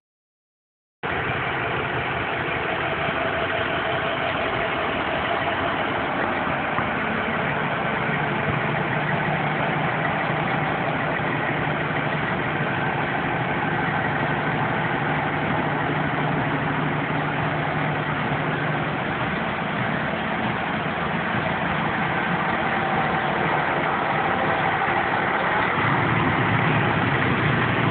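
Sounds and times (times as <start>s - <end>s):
truck engine idling: 1.0s - 27.9s.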